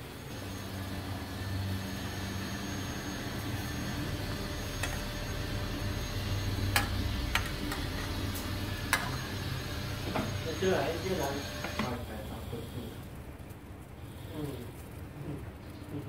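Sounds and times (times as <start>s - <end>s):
water boiling in a pot: 0.0s - 16.0s.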